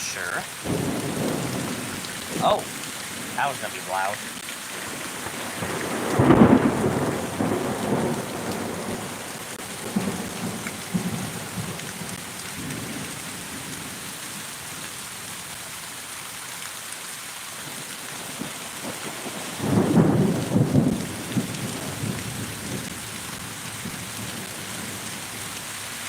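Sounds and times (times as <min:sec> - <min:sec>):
thunder rumbling: 0:00.0 - 0:13.8, 0:18.2 - 0:25.7
heavy rain hissing: 0:00.0 - 0:15.6, 0:17.6 - 0:26.0.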